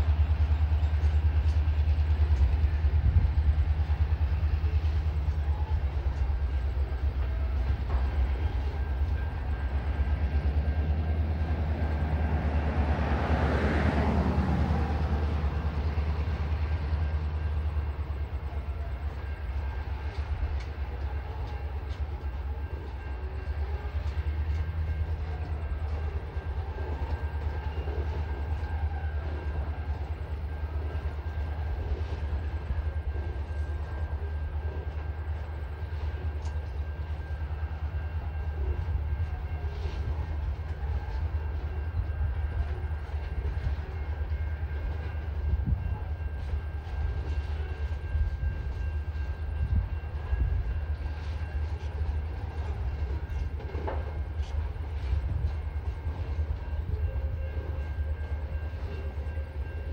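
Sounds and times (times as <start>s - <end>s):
train wagons rumbling: 0.0s - 59.9s.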